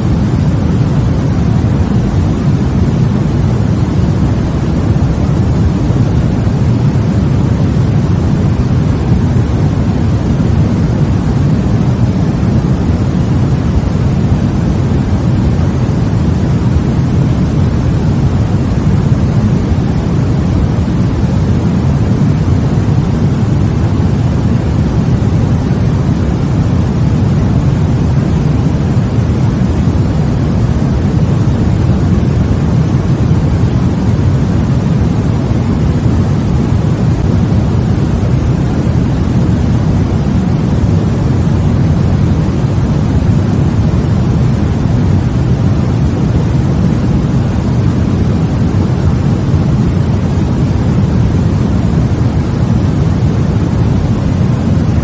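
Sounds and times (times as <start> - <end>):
deep rushing white noise: 0.0 - 55.0.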